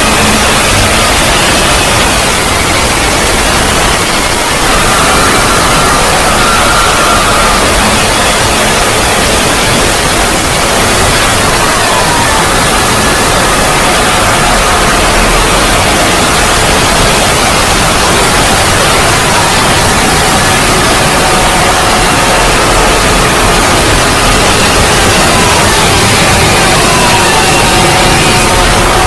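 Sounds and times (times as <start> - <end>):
loud static-like noise: 0.0 - 29.0.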